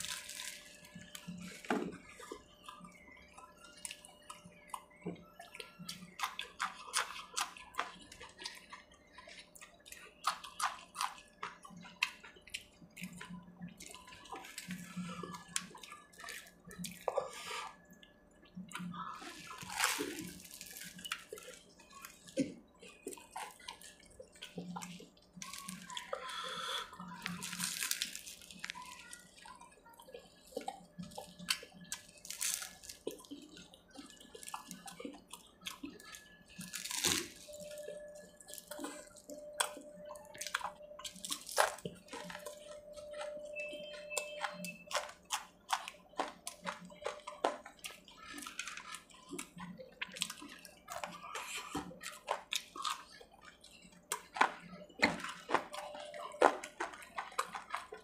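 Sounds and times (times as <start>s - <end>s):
person chewing crunchy fried food: 0.0s - 58.0s.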